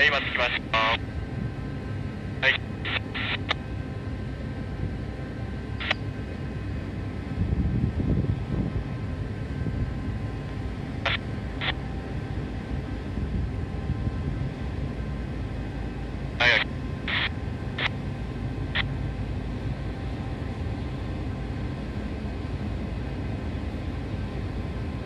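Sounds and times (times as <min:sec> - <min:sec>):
ship engine rumble: 0:00.0 - 0:25.0
wind: 0:00.0 - 0:25.0.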